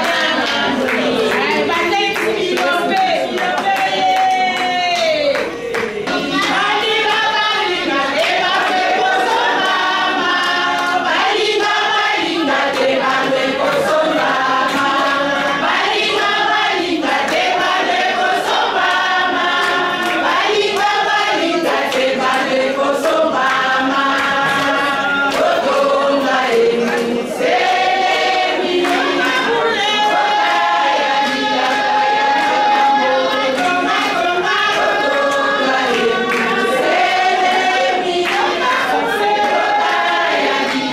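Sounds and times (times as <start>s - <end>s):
women singing in chorus: 0.0s - 40.9s.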